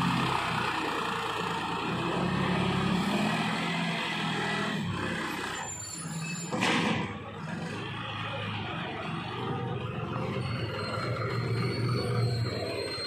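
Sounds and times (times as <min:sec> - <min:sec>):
tractor diesel engine running: 0:00.0 - 0:05.6, 0:07.0 - 0:13.0.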